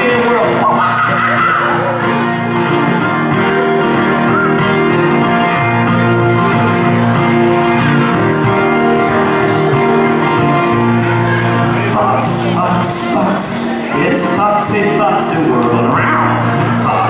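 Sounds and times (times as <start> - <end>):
acoustic guitars strummed: 0.0 - 17.0.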